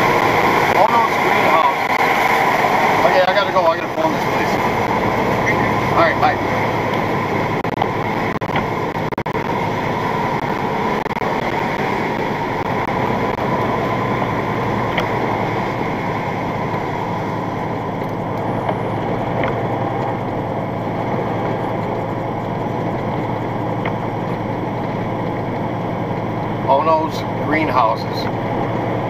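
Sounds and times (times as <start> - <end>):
road noise on wet road: 0.0 - 29.0
truck engine: 0.0 - 29.0.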